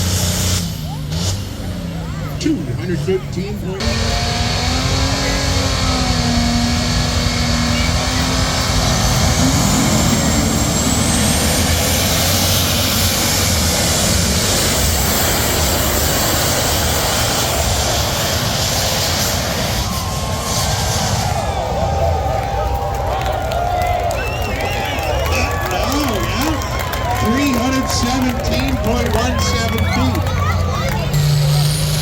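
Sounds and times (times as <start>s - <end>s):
tractor engine roaring: 0.0s - 32.0s.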